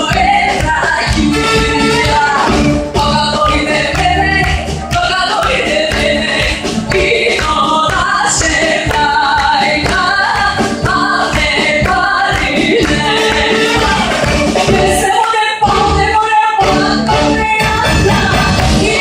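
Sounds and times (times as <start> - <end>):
live folk band playing: 0.0 - 19.0.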